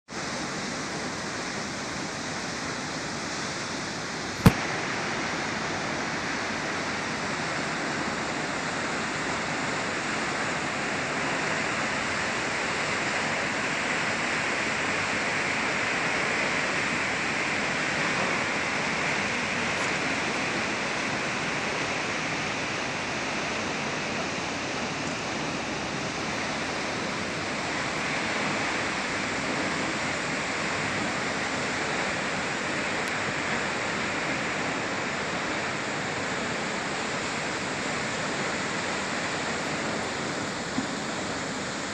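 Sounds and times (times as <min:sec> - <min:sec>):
waterfall rushing: 0:00.1 - 0:41.9.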